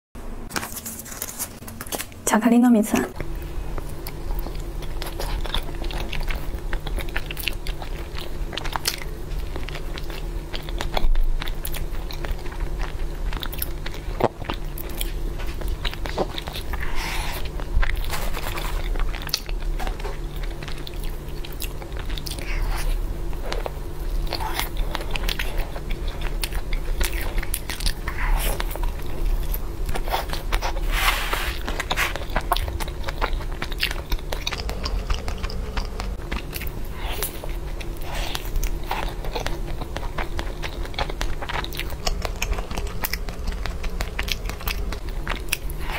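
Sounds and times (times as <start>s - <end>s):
steady low hum: 0.2s - 45.9s
chewing sticky food: 3.2s - 45.9s.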